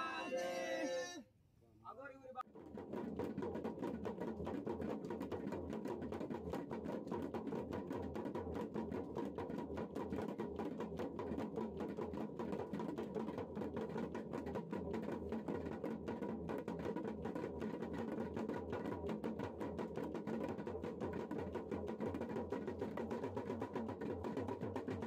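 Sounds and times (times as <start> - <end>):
hand drum drumming: 2.5 - 25.0.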